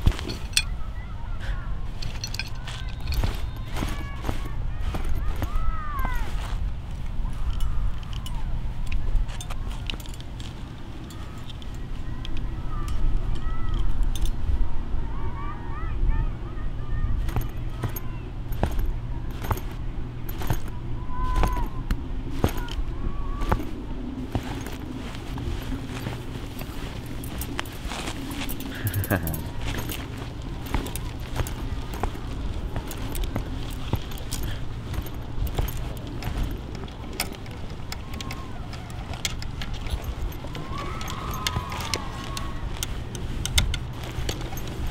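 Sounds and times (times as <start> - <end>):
footsteps on pavement: 0.0 - 0.8, 1.4 - 12.4, 17.2 - 44.9
light metallic clicks and rattling: 0.0 - 0.8, 1.9 - 14.5, 17.2 - 44.9
low outdoor rumble: 0.0 - 44.9.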